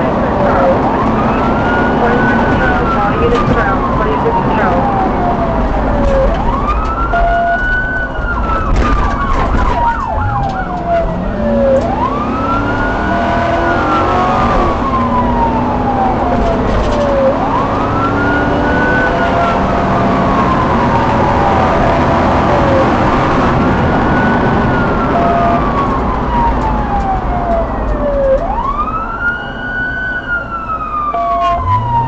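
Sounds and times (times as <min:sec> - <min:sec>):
police siren wailing: 0:00.0 - 0:32.0
vehicle engine and road rumble: 0:00.0 - 0:32.0.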